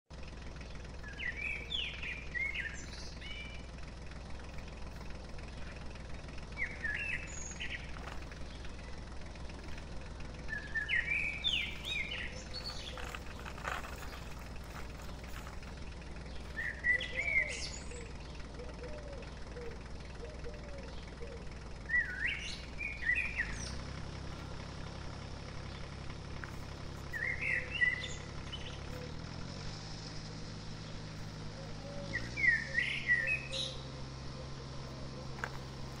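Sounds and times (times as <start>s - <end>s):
low background rumble: 0.1s - 36.0s
songbird singing: 0.1s - 36.0s.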